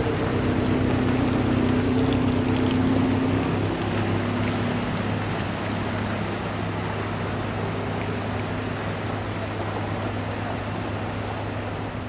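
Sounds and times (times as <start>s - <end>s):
pump engine humming: 0.0s - 12.0s.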